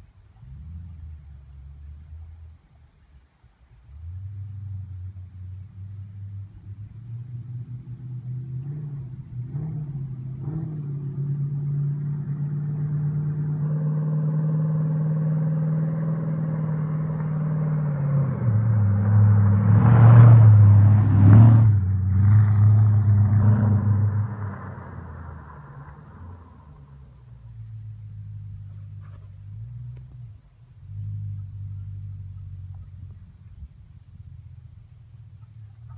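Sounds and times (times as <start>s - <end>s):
unsilenced car engine revving: 0.2s - 2.8s, 3.8s - 35.9s.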